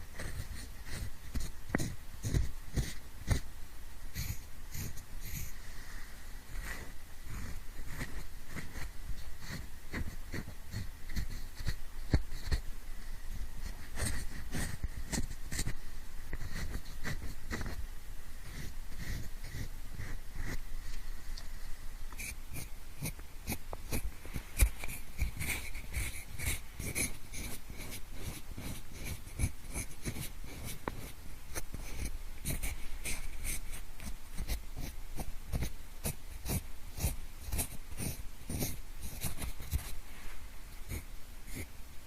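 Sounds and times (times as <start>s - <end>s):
pencil scratching and clicking: 0.1s - 3.5s, 4.1s - 5.6s, 6.5s - 12.6s, 13.3s - 17.8s, 18.4s - 20.6s, 22.2s - 40.0s, 40.8s - 41.7s.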